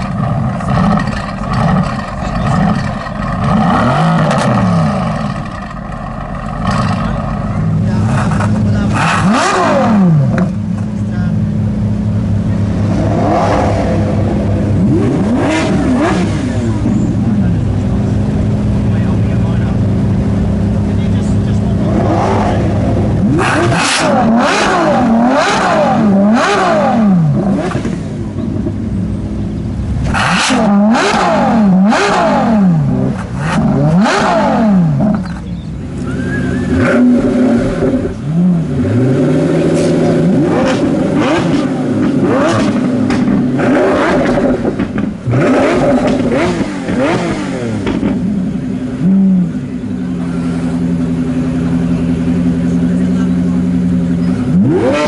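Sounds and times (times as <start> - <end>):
car engine idling: 0.0 - 55.0
car engine revving: 0.0 - 55.0.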